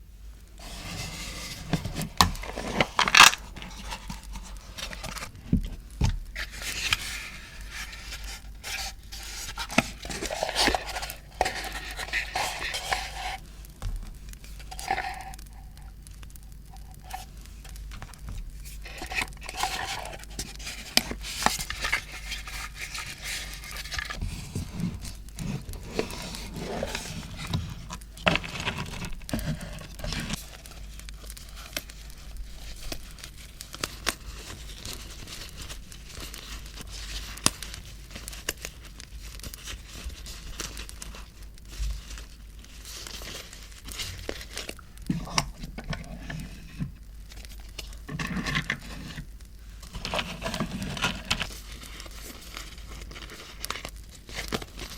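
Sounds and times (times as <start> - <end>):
paper and packaging rustling: 0.6 - 54.9.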